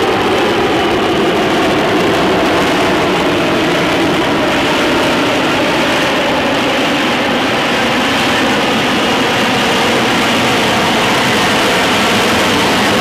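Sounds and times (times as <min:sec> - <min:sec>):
jet engine hovering: 0:00.0 - 0:13.0.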